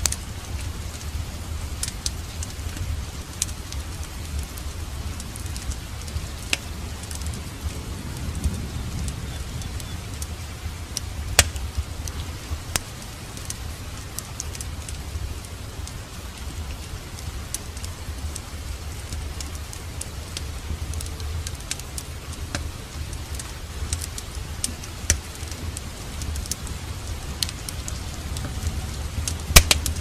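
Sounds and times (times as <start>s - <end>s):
fire popping: 0.0s - 30.0s
low rumble: 0.0s - 30.0s
steady rain: 0.0s - 30.0s
wood fire crackling: 0.0s - 30.0s.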